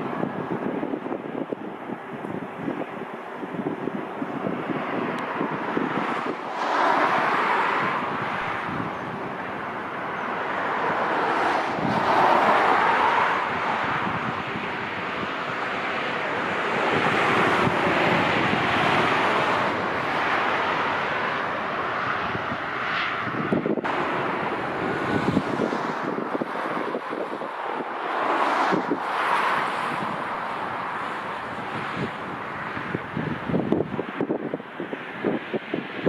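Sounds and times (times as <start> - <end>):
gusty wind on microphone: 0.0 - 36.0.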